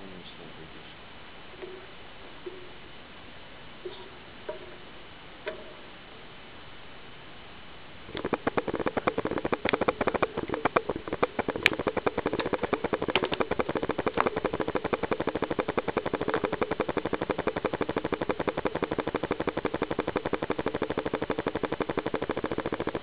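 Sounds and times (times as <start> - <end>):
rapid mechanical pulsing: 0.0 - 23.0.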